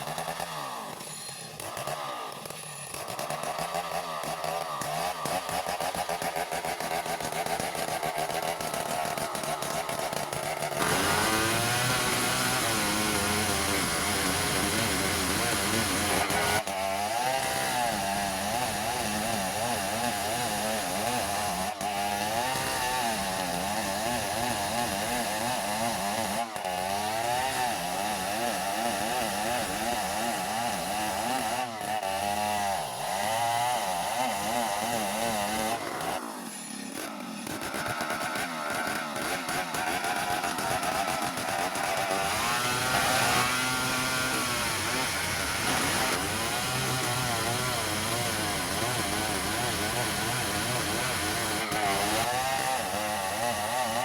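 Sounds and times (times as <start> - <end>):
engine-driven saw cutting wood: 0.0 - 54.0.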